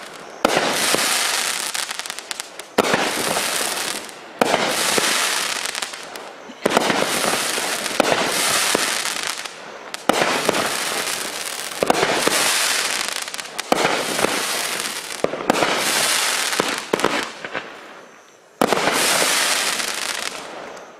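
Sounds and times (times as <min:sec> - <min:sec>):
fireworks bangs with crackling: 0:00.0 - 0:20.9.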